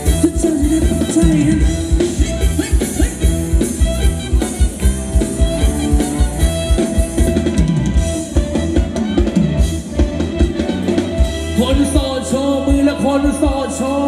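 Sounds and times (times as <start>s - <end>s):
bass drum steady fast beat: 0.0s - 13.9s
live dance band playing: 0.0s - 14.0s.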